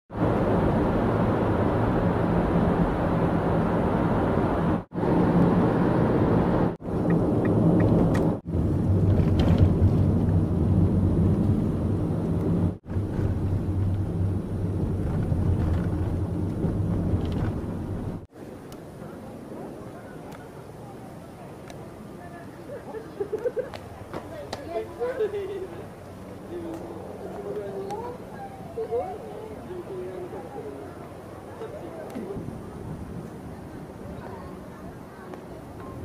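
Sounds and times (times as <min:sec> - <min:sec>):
vehicle engine rumble: 0:00.1 - 0:36.0.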